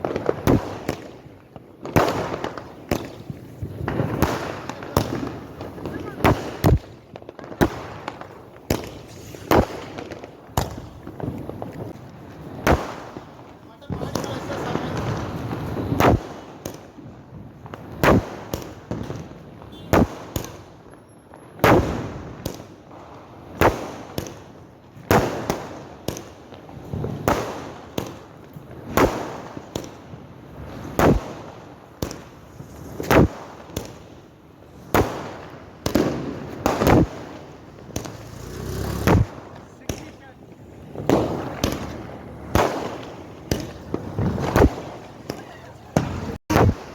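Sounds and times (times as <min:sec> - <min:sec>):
small firecracker pops: 0:00.0 - 0:30.0, 0:30.8 - 0:34.1, 0:34.8 - 0:46.9
firecrackers banging: 0:00.0 - 0:46.9.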